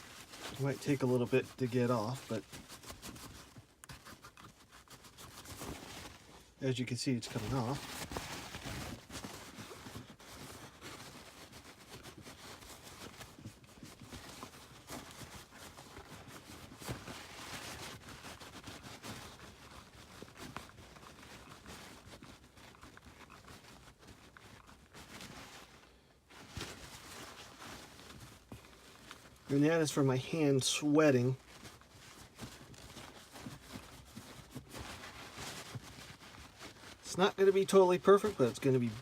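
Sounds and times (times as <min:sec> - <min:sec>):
paper towel rubbing a knob: 0:00.0 - 0:25.8, 0:26.4 - 0:39.0.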